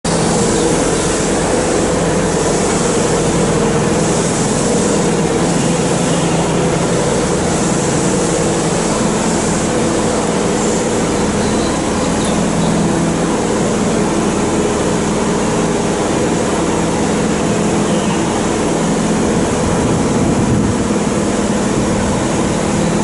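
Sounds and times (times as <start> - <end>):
electric train humming: 0.1 - 23.0
hiss: 0.1 - 23.0.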